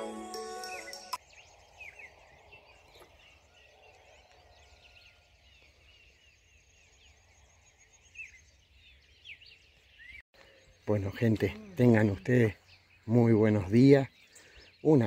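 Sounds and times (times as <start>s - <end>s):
birds chirping and calling: 0.4s - 15.0s.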